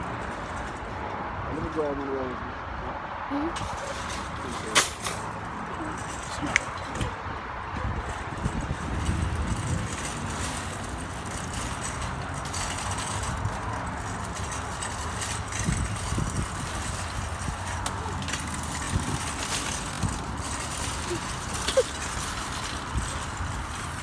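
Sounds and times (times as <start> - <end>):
shopping cart wheels rumbling: 0.0 - 2.1, 3.6 - 24.0.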